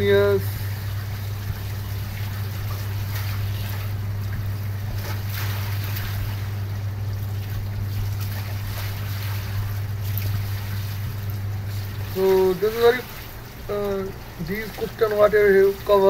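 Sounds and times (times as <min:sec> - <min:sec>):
electrical hum with hiss: 0:00.0 - 0:16.0.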